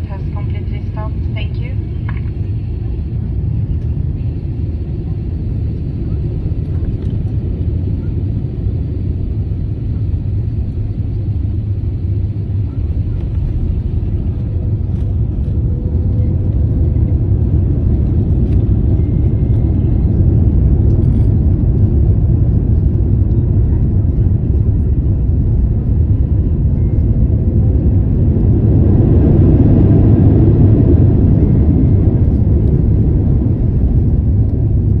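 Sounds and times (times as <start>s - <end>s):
airliner landing rumble: 0.0s - 35.0s.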